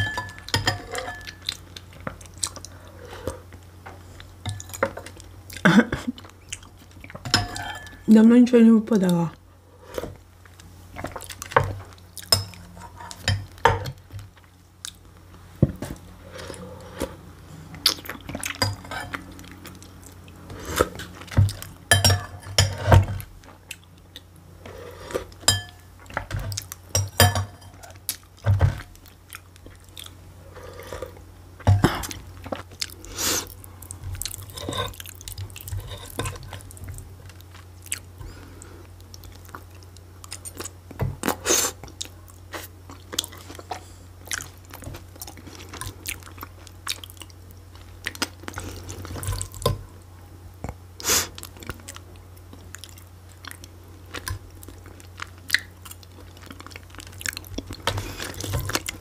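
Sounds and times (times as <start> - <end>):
person chewing and swallowing: 1.2 - 7.2, 10.1 - 21.8, 27.8 - 49.8, 50.6 - 59.0.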